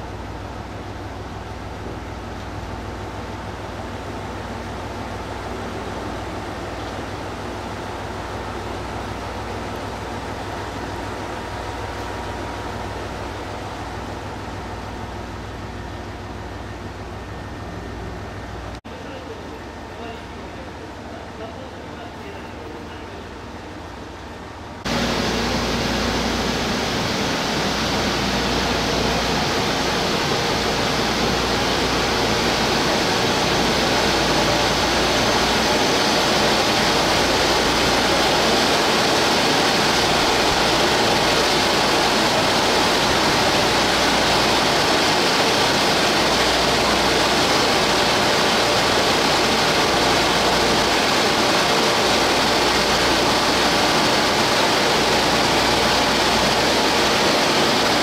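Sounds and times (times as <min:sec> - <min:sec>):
electric train equipment humming: 0:00.0 - 0:58.0.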